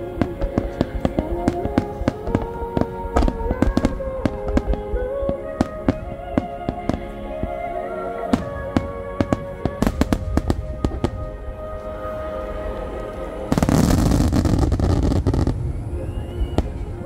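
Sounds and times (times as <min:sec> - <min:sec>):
fireworks bursting: 0:00.0 - 0:17.0
music with long held notes: 0:00.0 - 0:17.0.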